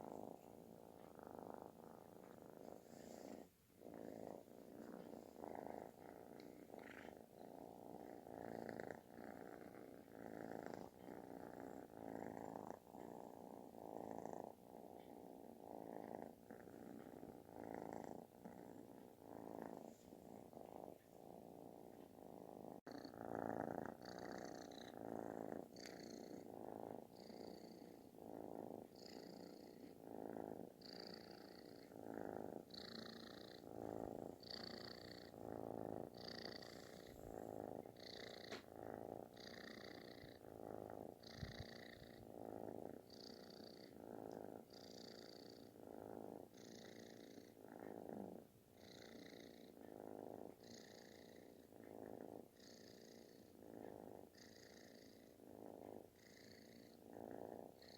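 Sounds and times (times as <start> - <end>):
kitten purring: 0.0 - 57.9.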